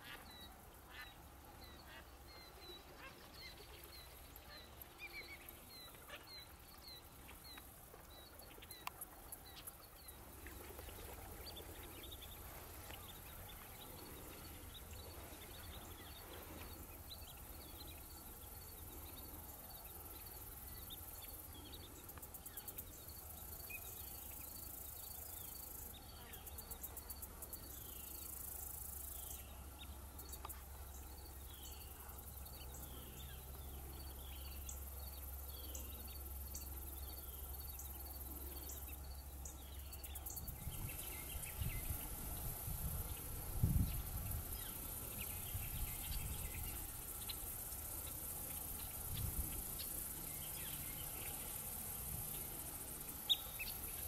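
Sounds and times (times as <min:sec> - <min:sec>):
high buzzing hiss: 0:04.1 - 0:54.0.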